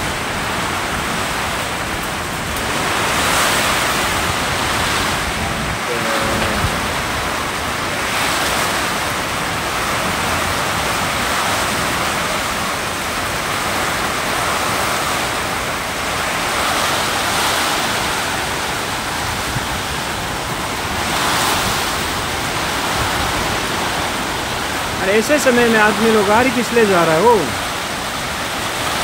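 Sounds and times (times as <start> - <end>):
heavy rain on tin roof: 0.0 - 29.0.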